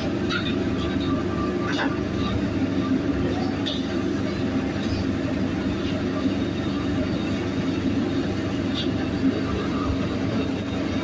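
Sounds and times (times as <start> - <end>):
wok range roaring: 0.0 - 11.0.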